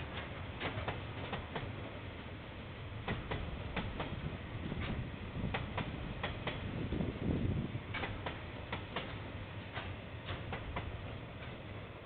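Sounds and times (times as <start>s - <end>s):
train wheels clicking over rail joint: 0.0s - 1.8s, 3.0s - 7.0s, 7.9s - 11.8s
low train rumble: 0.0s - 12.0s.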